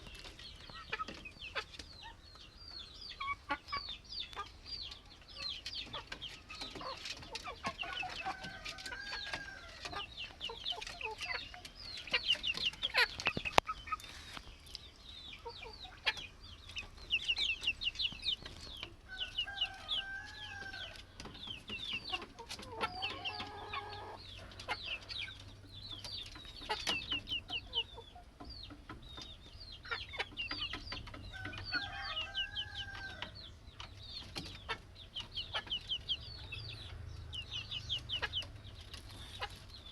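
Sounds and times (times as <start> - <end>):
chicken clucking: 0.0 - 39.9
chicks peeping: 0.0 - 39.9.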